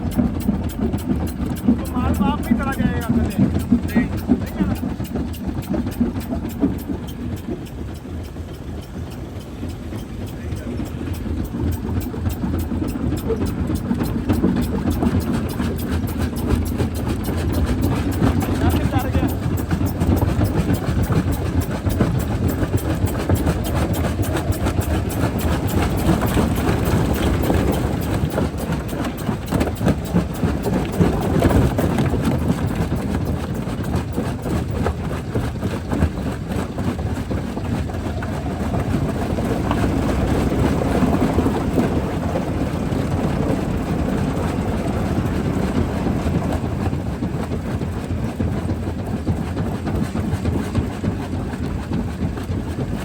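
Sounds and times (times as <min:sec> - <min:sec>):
rock crusher rumbling: 0:00.0 - 0:46.8.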